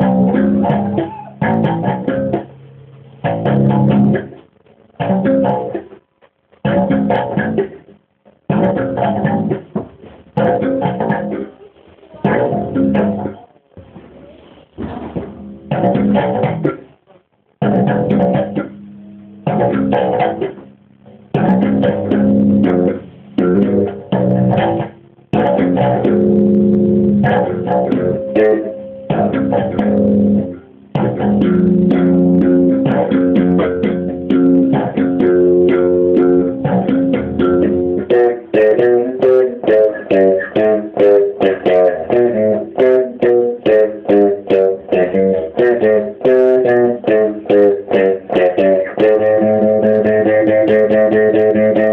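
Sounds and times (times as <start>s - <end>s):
slap bass guitar: 0.0s - 11.5s, 12.2s - 13.4s, 14.8s - 16.9s, 17.6s - 51.9s.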